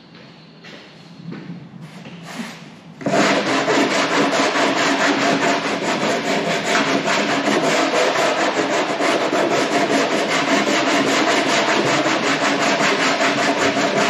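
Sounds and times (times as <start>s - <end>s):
hand sanding wood: 2.3s - 14.0s.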